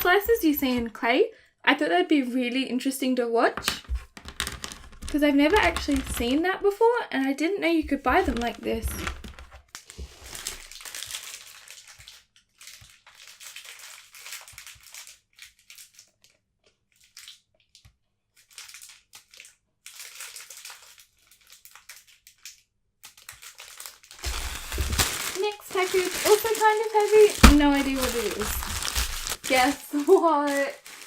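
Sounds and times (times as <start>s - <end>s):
plastic packaging crinkling: 0.0s - 0.9s, 3.6s - 6.8s, 7.8s - 16.3s, 18.4s - 31.0s.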